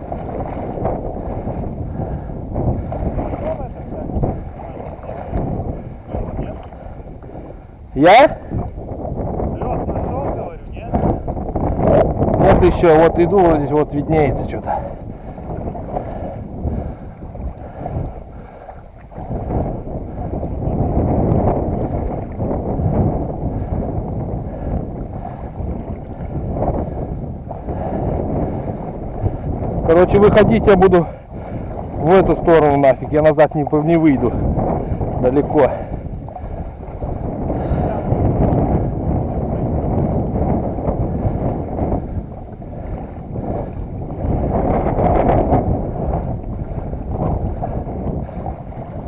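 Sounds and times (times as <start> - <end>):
water sloshing from wading: 0.0 - 49.0
wind buffeting microphone: 0.0 - 49.0.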